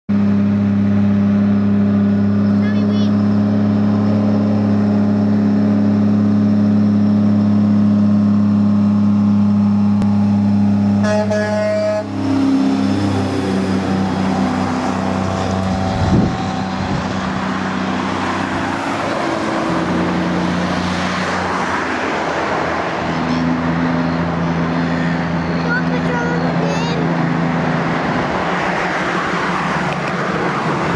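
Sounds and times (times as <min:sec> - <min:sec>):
tyre and trailer noise: 0:00.1 - 0:30.9.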